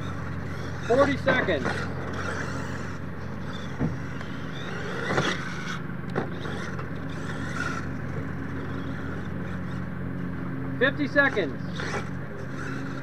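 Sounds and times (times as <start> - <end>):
toy truck tyres on dirt: 0.0 - 10.3, 11.1 - 13.0
steady low hum: 0.0 - 13.0.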